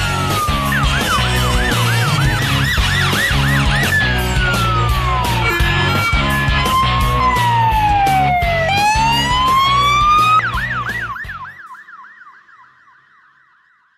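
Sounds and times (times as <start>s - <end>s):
siren wailing and yelping: 0.0s - 13.9s.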